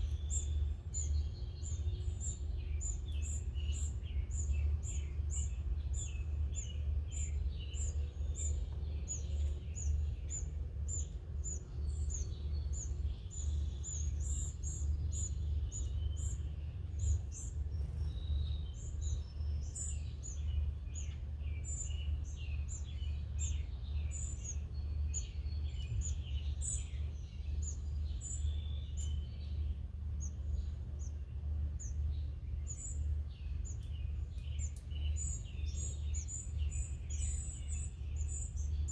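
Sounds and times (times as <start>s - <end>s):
low hum: 0.0s - 37.1s
small birds chirping: 0.0s - 38.9s.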